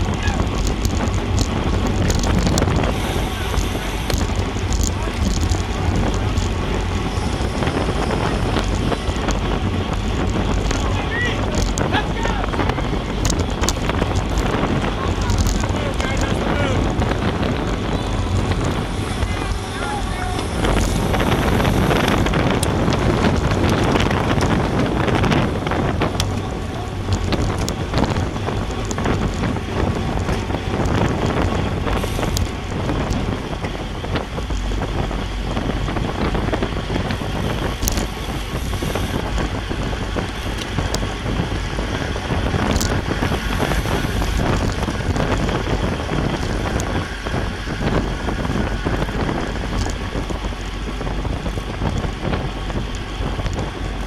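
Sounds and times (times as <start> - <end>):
tyre road noise: 0.0 - 54.0
wind rushing over microphone: 0.0 - 54.0.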